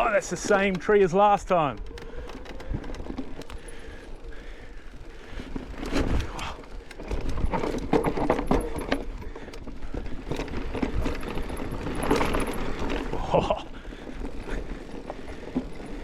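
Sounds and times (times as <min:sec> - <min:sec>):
bike knocks and rattles: 0:00.0 - 0:16.0.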